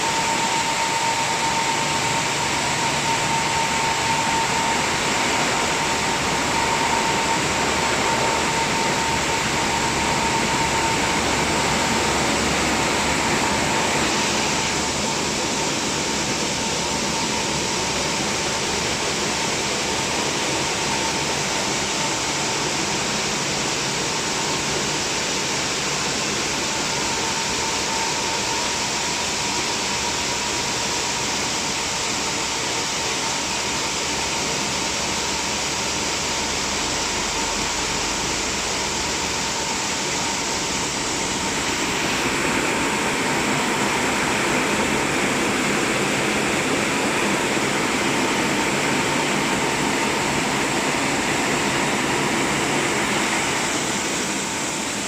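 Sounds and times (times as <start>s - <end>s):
car wash machine and spray: 0.0s - 55.0s.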